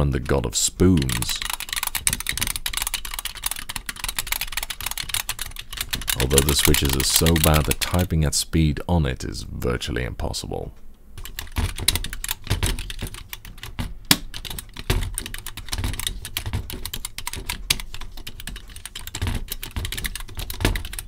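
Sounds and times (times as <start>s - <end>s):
fast typing on tinny keyboard: 0.2s - 8.1s, 11.2s - 21.0s.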